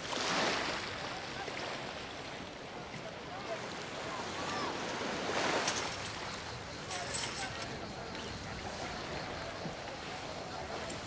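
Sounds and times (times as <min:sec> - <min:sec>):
small waves washing: 0:00.0 - 0:11.0
wind: 0:00.0 - 0:11.0
faint distant voices: 0:00.7 - 0:11.0.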